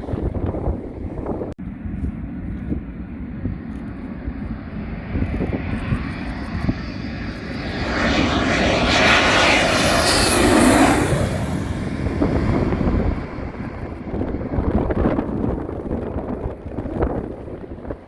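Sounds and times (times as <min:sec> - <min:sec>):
jet passing by: 0:03.5 - 0:18.0.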